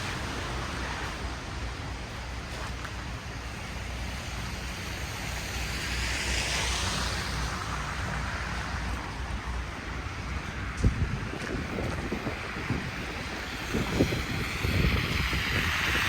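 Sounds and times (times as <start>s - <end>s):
hiss of passing vehicle or wind: 0.0s - 16.0s.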